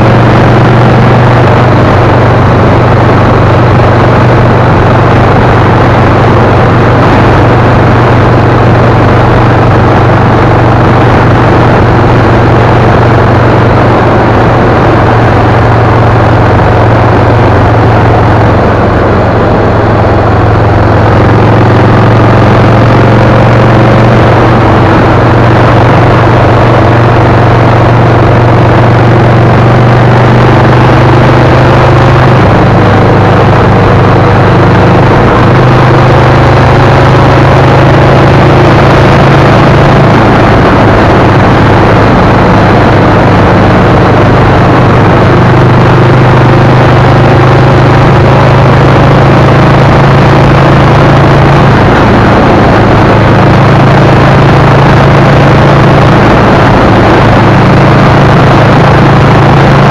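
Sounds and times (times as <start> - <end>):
road and wind noise: 0.0 - 59.9
vehicle engine droning: 0.0 - 59.9.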